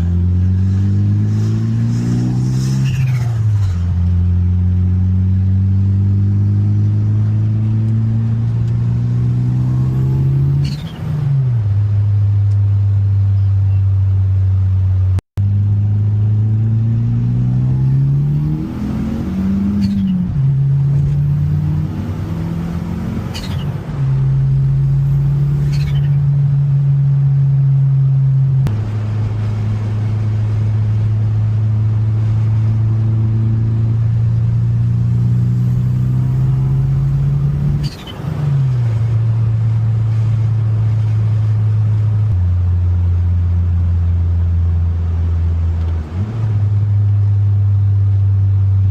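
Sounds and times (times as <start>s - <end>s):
car engine through gears: 0.0s - 14.1s, 15.4s - 48.9s.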